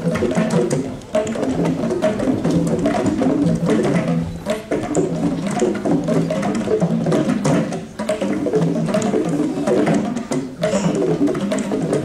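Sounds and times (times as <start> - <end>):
drum ensemble playing: 0.0 - 12.0.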